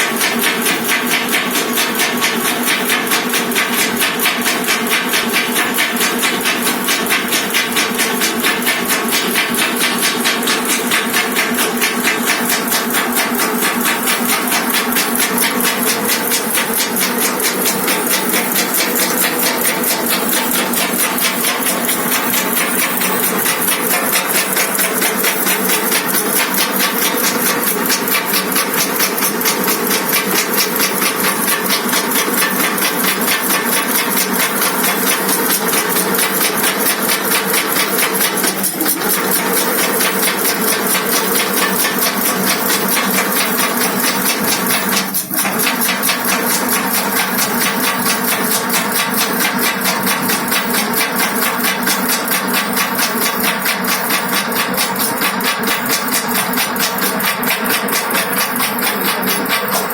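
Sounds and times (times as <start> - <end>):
machine clattering rhythmically: 0.0 - 59.9.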